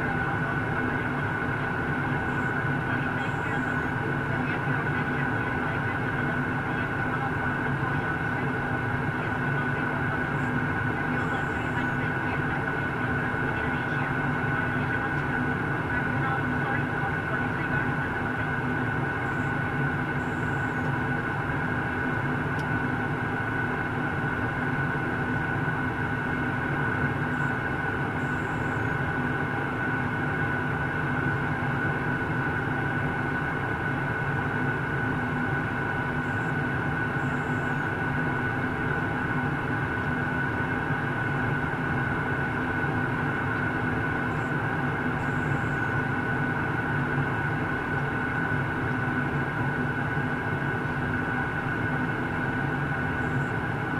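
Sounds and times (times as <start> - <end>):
high jet engine whine: 0.0 - 53.9.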